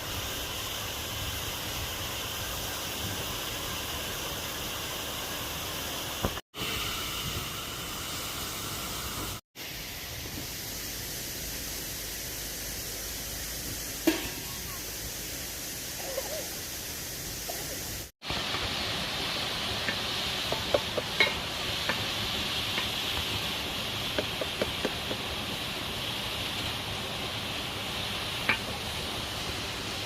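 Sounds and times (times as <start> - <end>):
food sizzling in a pot: 0.0 - 30.0.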